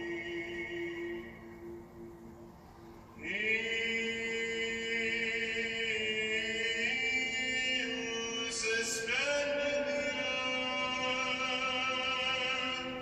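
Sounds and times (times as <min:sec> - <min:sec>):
choral chant in long notes: 0:00.0 - 0:13.0.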